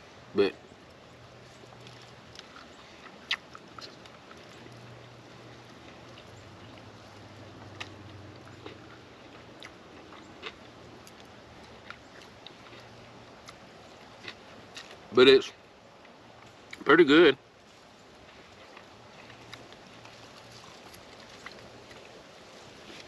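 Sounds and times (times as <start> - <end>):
faint low hum: 0.0 - 23.0
man chewing food: 0.8 - 15.1, 17.6 - 23.0.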